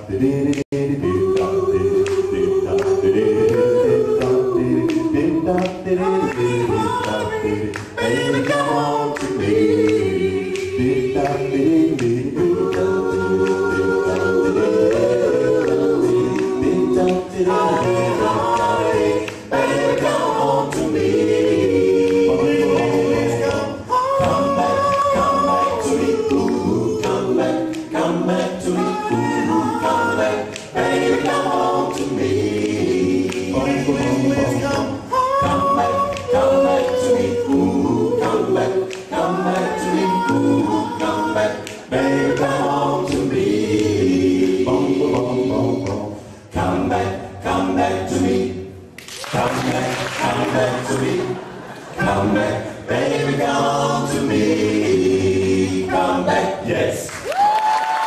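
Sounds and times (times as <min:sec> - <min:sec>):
male vocal group singing a cappella: 0:00.0 - 0:57.5.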